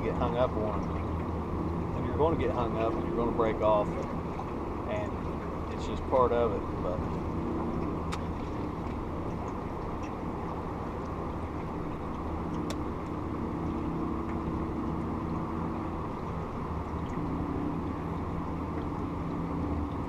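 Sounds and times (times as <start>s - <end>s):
boat motor running: 0.0s - 20.0s
water rushing: 0.0s - 20.0s
wind: 0.0s - 20.0s.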